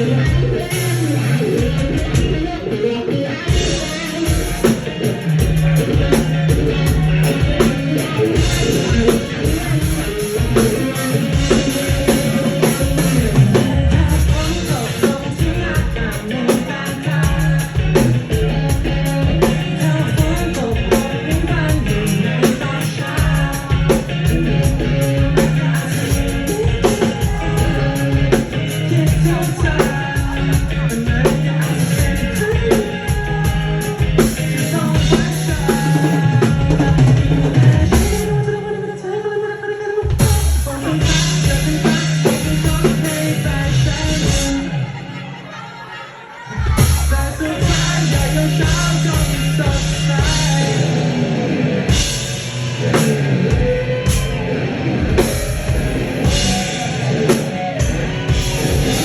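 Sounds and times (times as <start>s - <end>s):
pop-rock band music: 0.0s - 59.0s.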